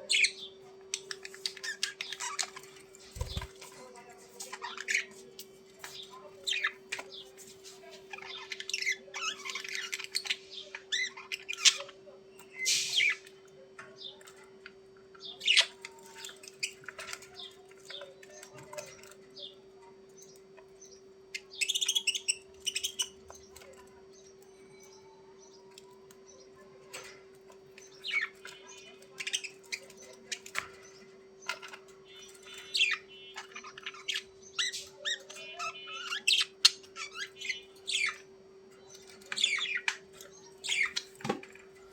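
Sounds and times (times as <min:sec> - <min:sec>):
budgerigars chirping and squawking: 0:00.0 - 0:19.6, 0:20.2 - 0:41.9.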